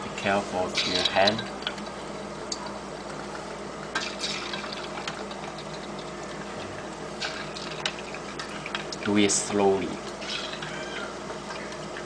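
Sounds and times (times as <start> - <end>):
chicken deep-frying in oil: 0.0 - 12.0
oil popping: 0.8 - 9.1, 10.0 - 12.0.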